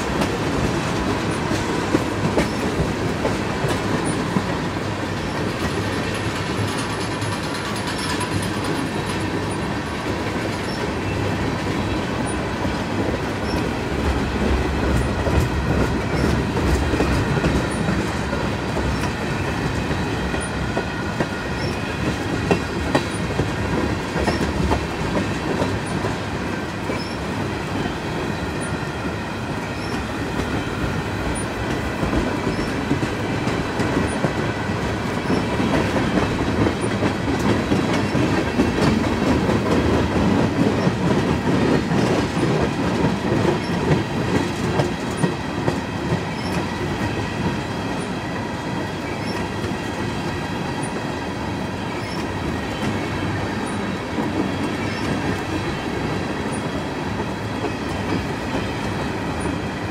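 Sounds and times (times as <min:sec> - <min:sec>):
railroad wheels clattering: 0:00.0 - 0:59.9.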